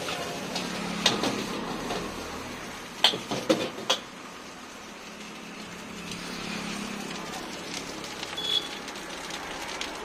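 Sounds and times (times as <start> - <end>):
gas burner hissing: 0.0 - 10.0.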